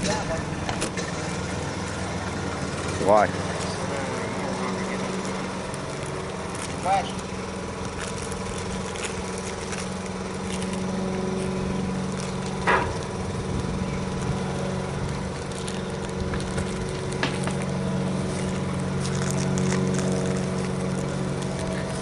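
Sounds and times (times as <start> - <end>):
motor running: 0.0 - 22.0.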